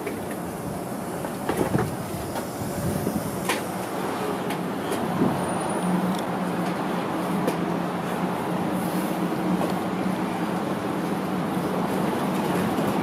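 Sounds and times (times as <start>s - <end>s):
streetcar running: 0.0s - 13.0s.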